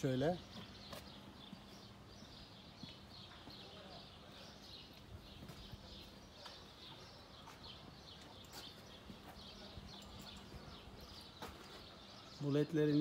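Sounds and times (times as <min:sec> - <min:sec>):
faint birds chirping: 0:00.0 - 0:13.0
low outdoor background noise: 0:00.0 - 0:13.0.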